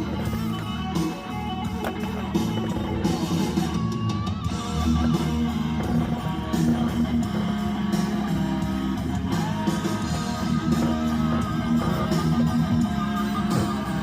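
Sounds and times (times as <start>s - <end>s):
electric guitar and bass music: 0.0s - 14.0s.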